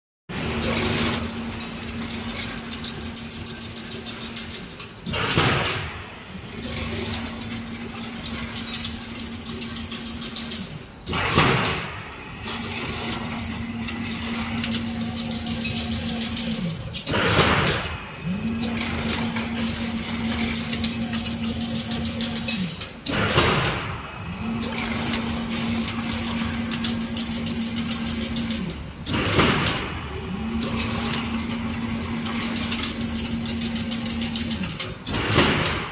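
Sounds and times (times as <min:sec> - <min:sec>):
weaving machine motor hum: 0:00.3 - 0:35.9.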